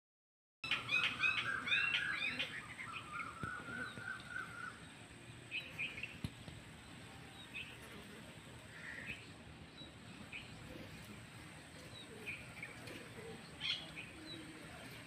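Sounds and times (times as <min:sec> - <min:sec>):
small birds chirping: 0:00.6 - 0:15.0.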